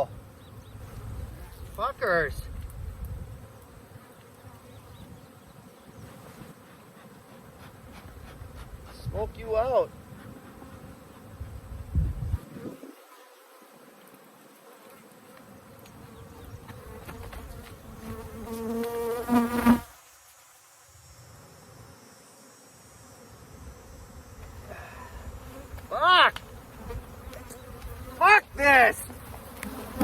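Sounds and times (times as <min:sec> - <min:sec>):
honeybees buzzing: 0:00.0 - 0:30.0
single bee buzzing close by: 0:02.9 - 0:08.8, 0:09.9 - 0:20.1, 0:21.0 - 0:28.3, 0:29.1 - 0:30.0.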